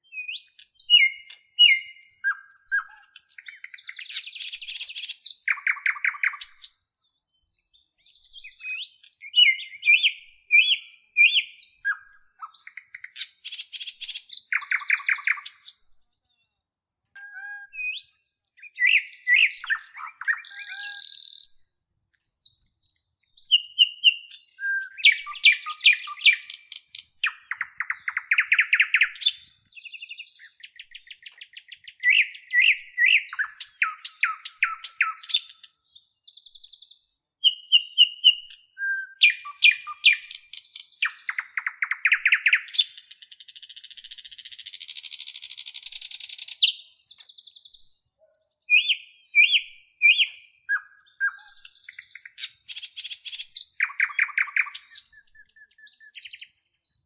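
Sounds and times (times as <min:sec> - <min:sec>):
songbird singing chirps and trills: 0:00.0 - 0:57.0.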